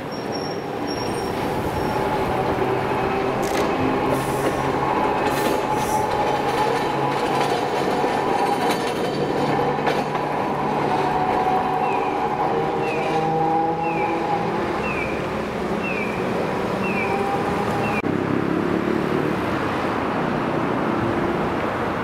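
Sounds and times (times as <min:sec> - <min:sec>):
streetcar wheels rumbling on rail: 0:00.0 - 0:22.0.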